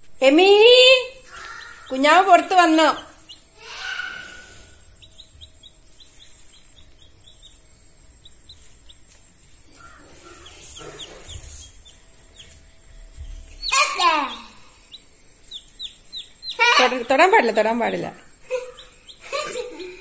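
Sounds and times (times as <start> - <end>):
chick peeping: 1.2 - 20.0.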